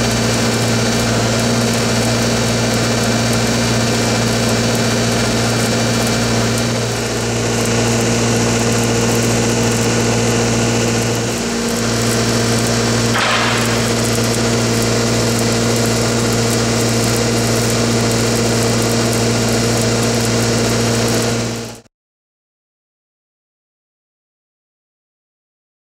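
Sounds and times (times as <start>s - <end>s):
welding arc crackling and hissing: 0.0s - 21.9s
welding machine engine hum: 0.0s - 21.9s.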